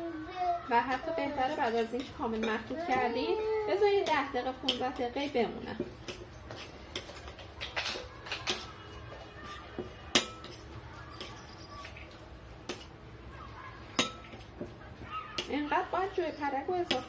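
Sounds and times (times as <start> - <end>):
spoon stirring dough in bowl: 0.8 - 17.0.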